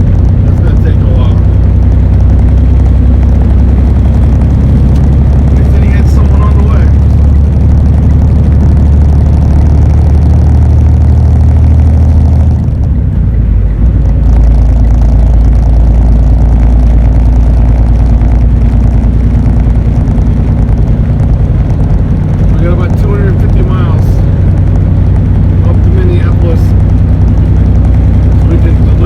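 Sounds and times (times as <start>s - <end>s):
diesel truck engine droning: 0.0s - 29.0s.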